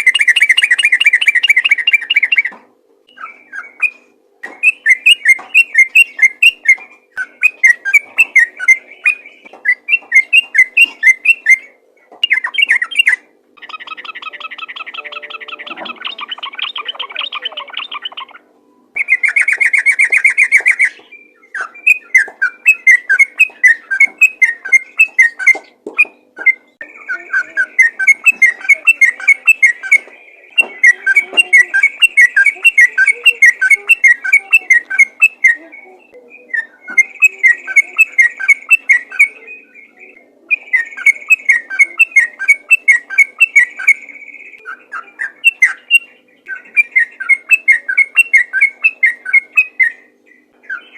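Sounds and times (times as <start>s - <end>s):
bulbul singing: 0.0s - 50.9s.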